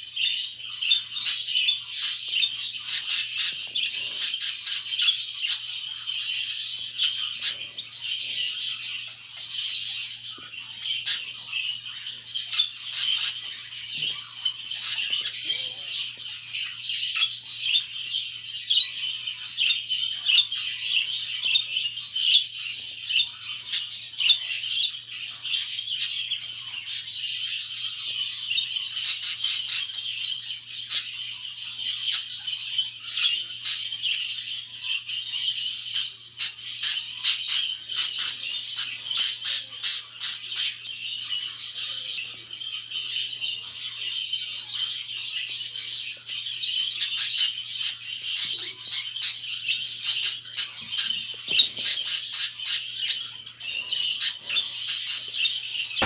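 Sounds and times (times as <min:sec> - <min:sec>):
budgerigars chattering: 0:00.2 - 0:17.9, 0:28.5 - 0:56.0.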